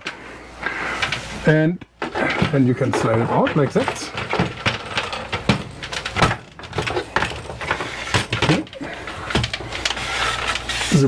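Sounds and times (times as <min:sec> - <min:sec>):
window blind frame knocking and scraping: 0:00.0 - 0:01.4, 0:02.0 - 0:11.0.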